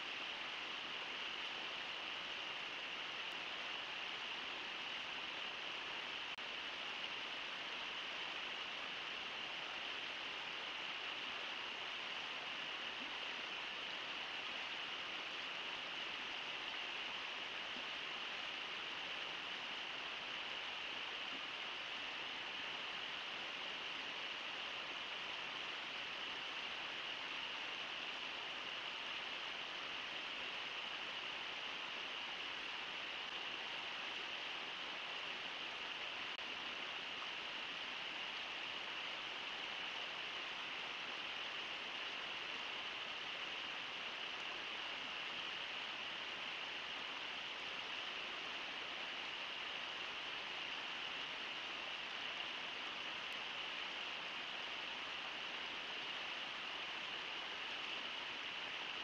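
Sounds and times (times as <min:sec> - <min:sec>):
flowing river water: 0:00.0 - 0:59.0.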